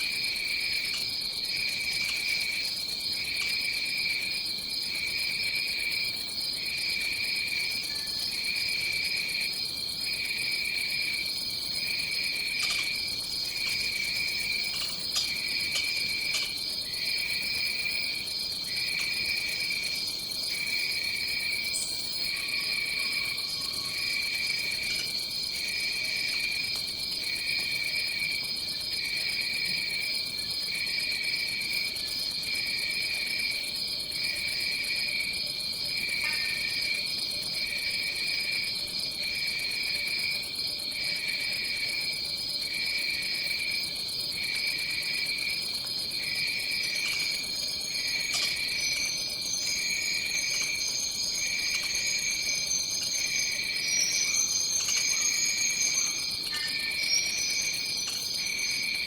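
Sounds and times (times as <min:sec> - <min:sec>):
high-pitched insect trill: 0:00.0 - 0:59.0
lower pulsing insect trill: 0:00.0 - 0:59.0.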